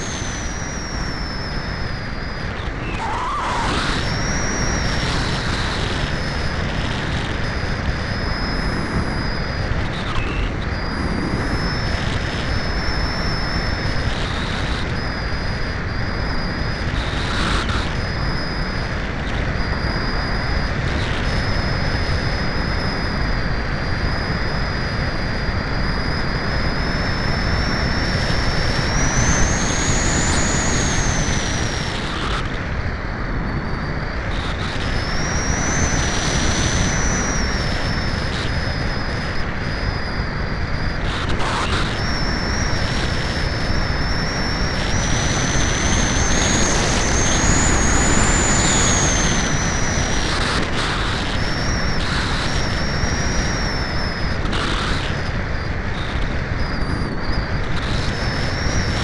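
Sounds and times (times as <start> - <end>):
thin high whine: 0.0 - 59.0
wind rushing over microphone: 0.0 - 59.0.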